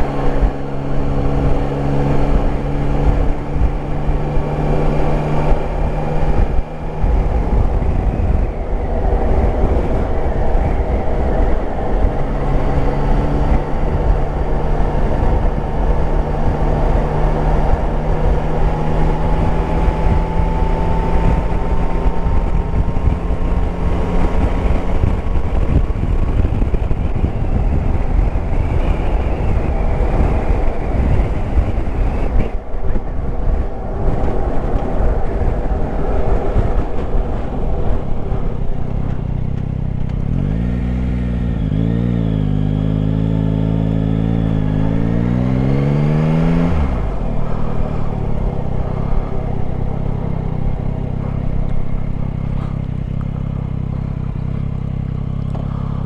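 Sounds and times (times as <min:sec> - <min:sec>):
motorcycle engine: 0:00.0 - 0:56.0
wind rush: 0:00.0 - 0:56.0.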